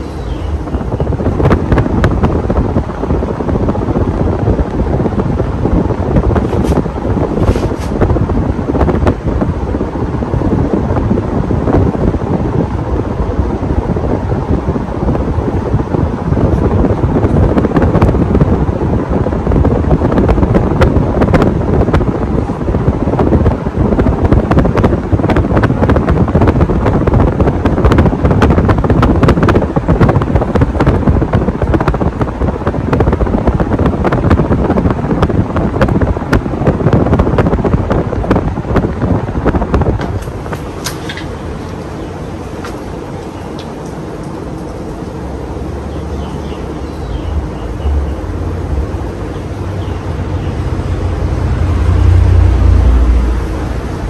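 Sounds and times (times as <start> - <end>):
fan wind noise on microphone: 0.0 - 54.0.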